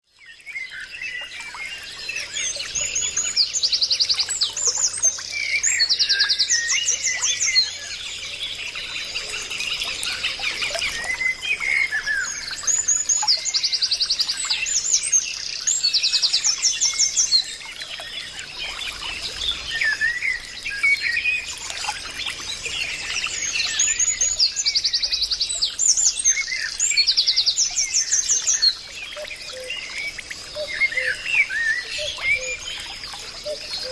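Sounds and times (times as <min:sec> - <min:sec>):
small birds chirping and trilling: 0:00.0 - 0:33.9.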